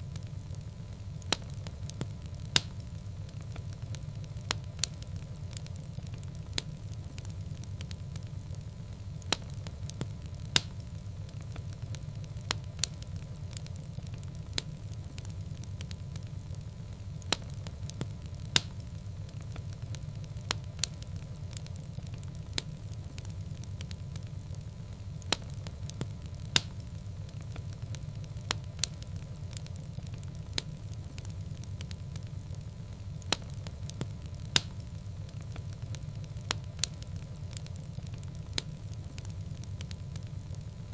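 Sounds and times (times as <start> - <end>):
fire crackling and popping: 0.0 - 40.9
low fire rumble: 0.0 - 40.9.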